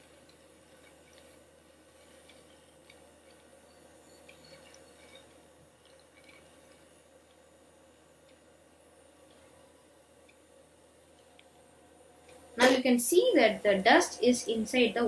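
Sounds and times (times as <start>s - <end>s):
small motor and fan humming: 0.0s - 15.0s.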